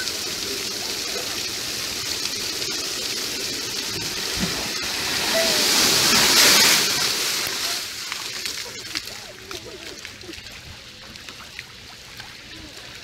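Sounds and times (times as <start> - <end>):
fountain water splashing into pool: 0.0 - 13.0.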